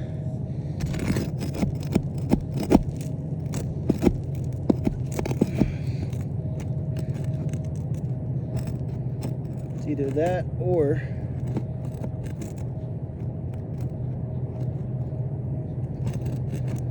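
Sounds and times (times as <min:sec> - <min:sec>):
steady low hum: 0:00.0 - 0:16.9
tool scraping roof shingles: 0:00.7 - 0:15.1, 0:15.9 - 0:16.9.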